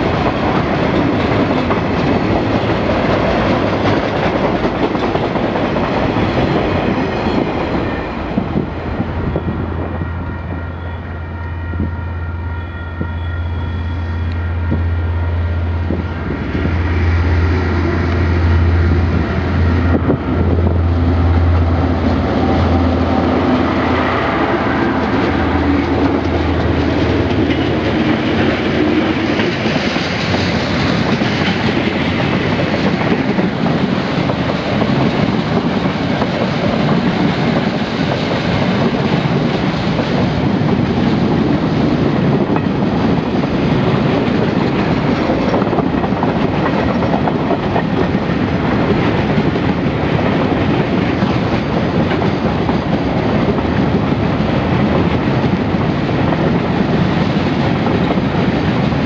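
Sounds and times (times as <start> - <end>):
diesel locomotives passing: 0.0 - 59.0
train wheels running on rails: 0.0 - 59.0.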